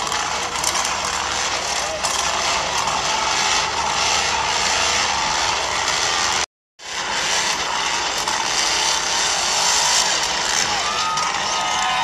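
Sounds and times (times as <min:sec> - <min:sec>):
toy truck drivetrain whirring: 0:00.0 - 0:12.0.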